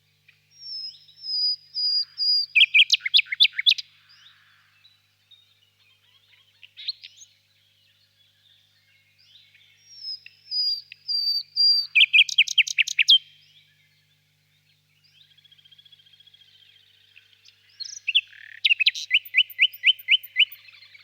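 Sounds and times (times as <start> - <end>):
nightingale singing: 0.0 - 21.0.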